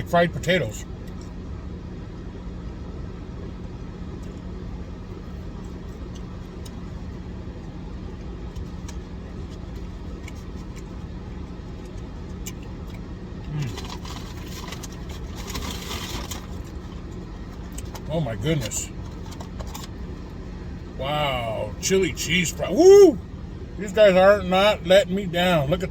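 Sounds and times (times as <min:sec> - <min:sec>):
car engine idling: 0:04.4 - 0:25.9.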